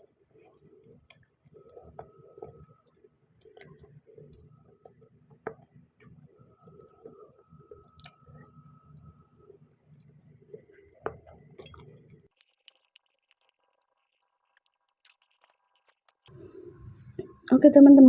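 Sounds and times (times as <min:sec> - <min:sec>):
person chewing noodles: 0:00.0 - 0:08.5, 0:10.0 - 0:16.7.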